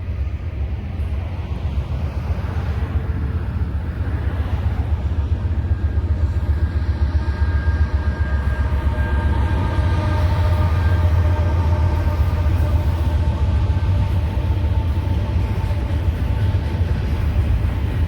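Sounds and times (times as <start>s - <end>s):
freight train rumbling: 0.0s - 18.0s.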